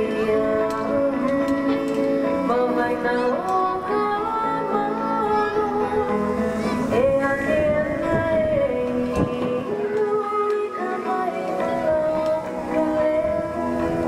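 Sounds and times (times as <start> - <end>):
instrumental backing: 0.0 - 14.0
person singing: 0.0 - 14.0.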